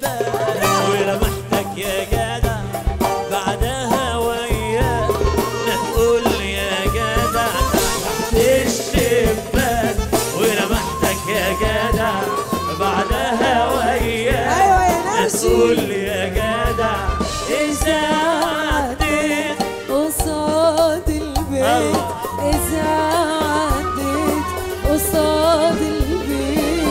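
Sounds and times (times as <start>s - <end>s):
frame drums: 0.0s - 26.9s
jingling tambourines: 0.0s - 26.9s
man singing: 0.0s - 26.9s
woman singing: 3.4s - 26.9s.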